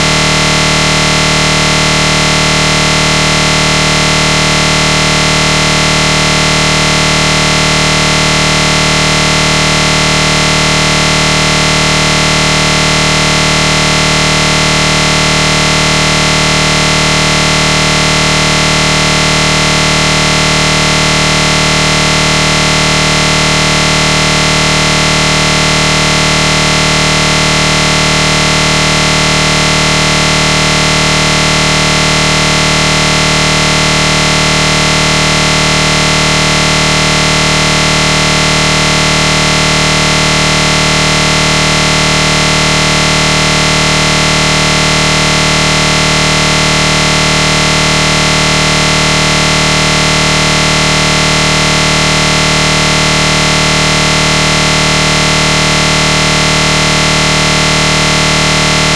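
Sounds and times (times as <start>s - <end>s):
loud buzzing drone: 0.0s - 58.9s.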